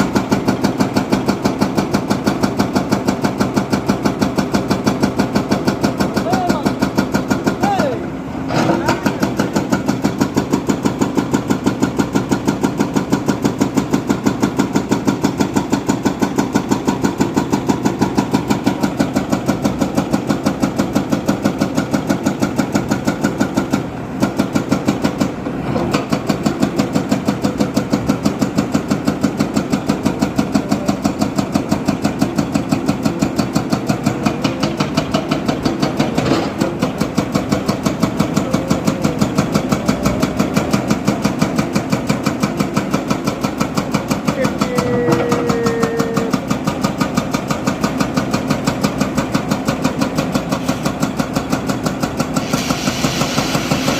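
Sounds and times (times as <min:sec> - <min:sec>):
diesel engine running steadily: 0:00.0 - 0:53.9.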